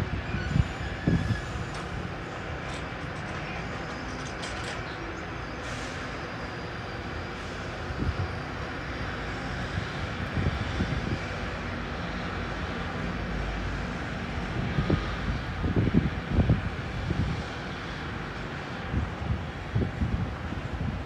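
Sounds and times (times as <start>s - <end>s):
train rolling past rumbling: 0.0s - 21.0s.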